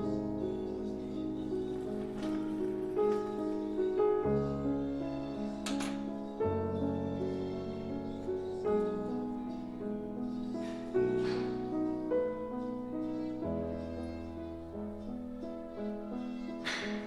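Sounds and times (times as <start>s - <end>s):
instrumental music sustained chords: 0.0s - 17.0s.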